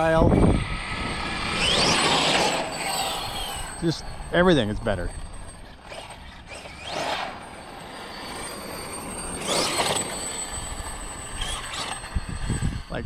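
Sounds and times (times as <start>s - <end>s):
electric motor whining up: 0.0s - 12.9s
steady rushing noise: 0.0s - 13.0s.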